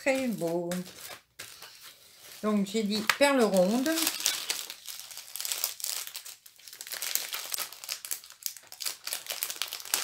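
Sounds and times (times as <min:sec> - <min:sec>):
plastic film crinkling: 0:00.0 - 0:10.0.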